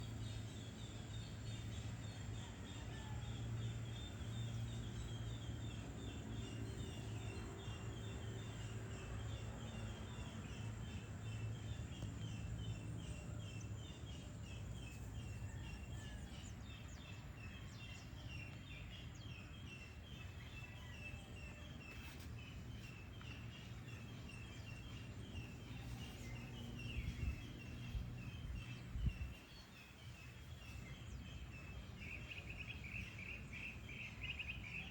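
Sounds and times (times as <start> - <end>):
low steady hum: 0.0 - 34.9
birds chirping: 3.9 - 34.9.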